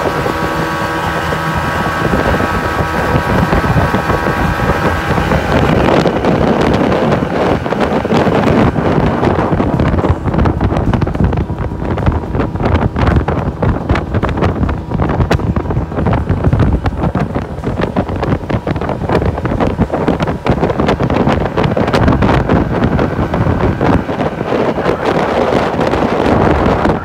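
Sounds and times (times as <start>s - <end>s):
boat engine: 0.0s - 27.0s
water rushing past hull: 0.0s - 27.0s
wind buffeting microphone: 0.0s - 27.0s.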